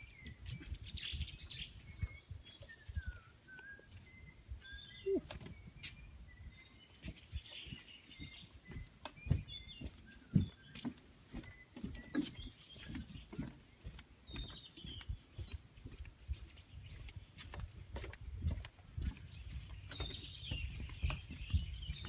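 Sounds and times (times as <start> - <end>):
birds chirping and whistling: 0.0 - 22.0.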